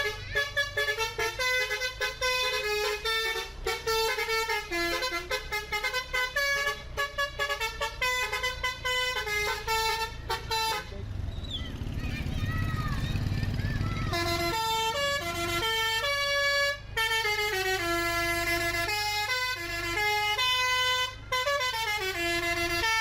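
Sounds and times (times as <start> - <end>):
multi-tone bus horn tune: 0.0 - 11.0, 14.0 - 23.0
low engine hum: 0.0 - 23.0.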